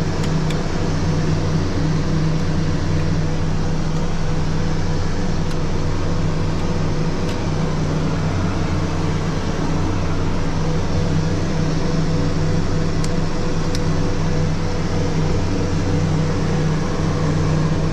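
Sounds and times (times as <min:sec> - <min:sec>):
turboprop engines droning: 0:00.0 - 0:17.9.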